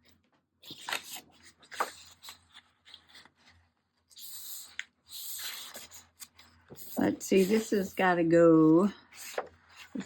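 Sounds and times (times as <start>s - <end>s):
paper sliding and rustling: 0.6s - 8.0s, 9.1s - 10.0s.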